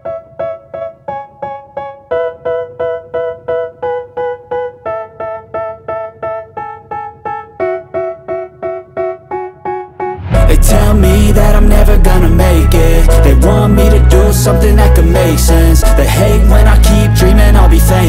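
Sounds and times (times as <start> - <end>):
keyboard repeating chords: 0.0 - 18.0.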